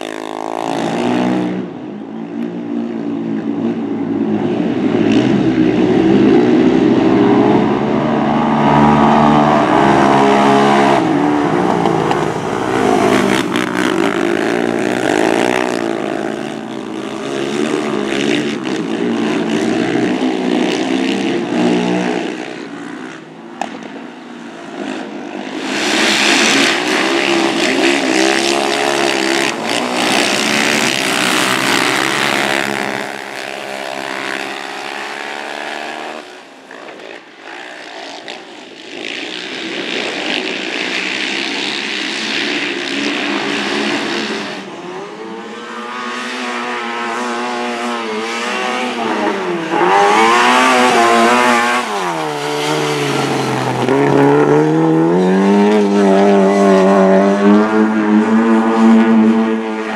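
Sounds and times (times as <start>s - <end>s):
quad bike engines revving: 0.0s - 59.9s.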